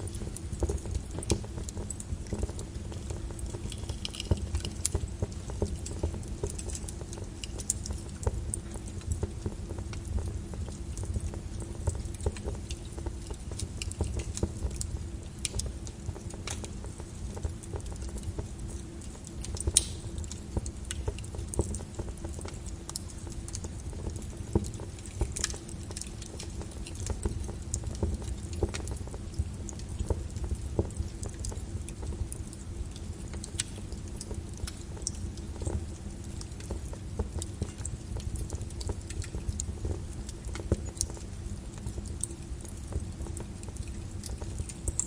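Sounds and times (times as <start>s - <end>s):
constant low rumble: 0.0s - 45.0s
lava crackling and popping: 0.0s - 45.0s.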